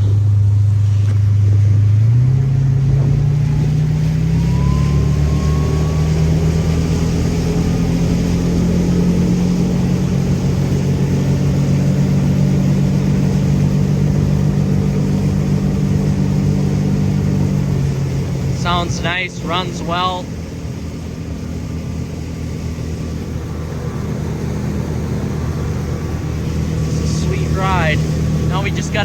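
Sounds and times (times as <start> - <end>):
boat engine speeding up: 0.0 - 29.0.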